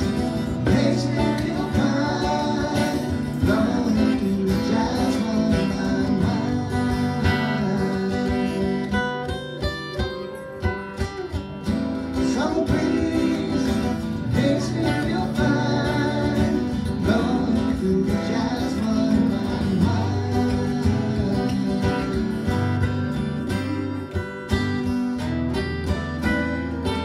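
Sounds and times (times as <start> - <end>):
acoustic guitars strumming: 0.0 - 27.0.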